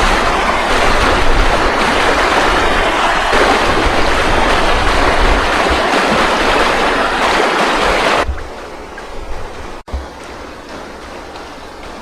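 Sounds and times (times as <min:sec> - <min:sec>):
gently moving water: 0:00.0 - 0:12.0
stream water rushing: 0:00.0 - 0:12.0.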